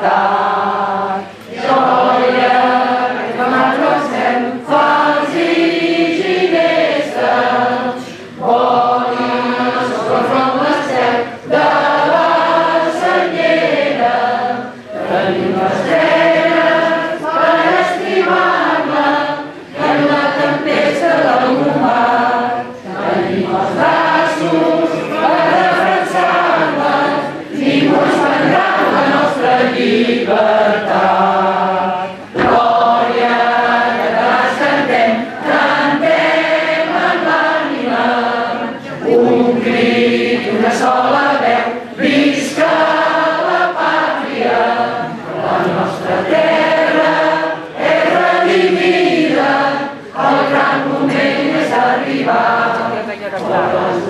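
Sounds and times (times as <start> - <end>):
mixed choir singing a hymn: 0.0 - 54.0.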